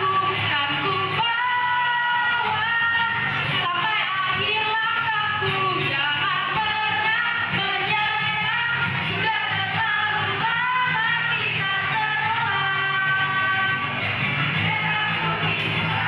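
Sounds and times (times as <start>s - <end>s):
group of students singing: 0.0s - 16.0s.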